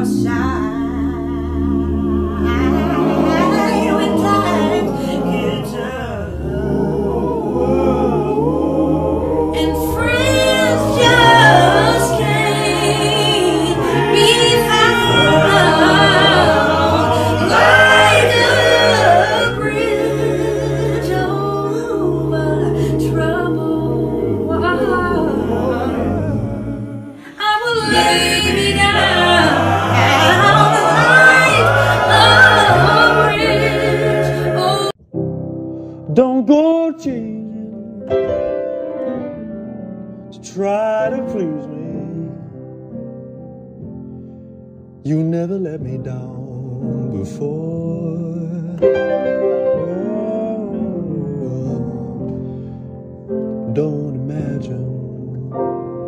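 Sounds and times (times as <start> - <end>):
male vocal harmony: 0.0 - 35.0, 36.0 - 38.1, 40.4 - 42.6, 45.0 - 52.5, 53.6 - 55.6.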